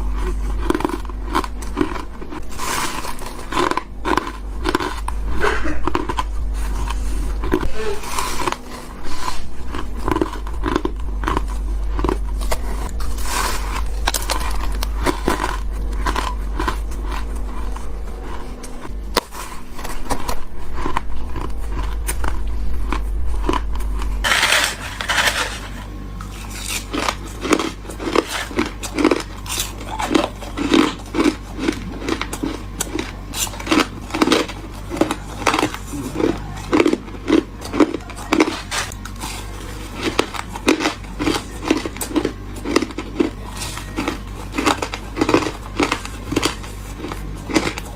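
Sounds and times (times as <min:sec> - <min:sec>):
chewing crunchy ice: 0:00.0 - 0:47.9
low hum: 0:00.0 - 0:47.9.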